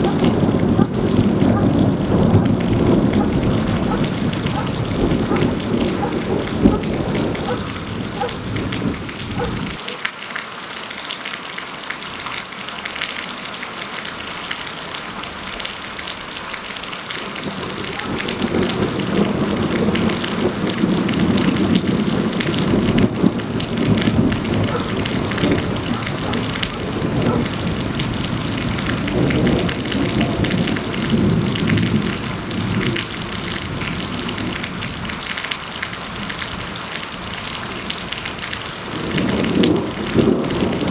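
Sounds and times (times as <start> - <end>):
thunder rumbling: 0.0 - 9.8, 17.2 - 35.2, 36.0 - 40.9
heavy rain falling: 0.0 - 40.9.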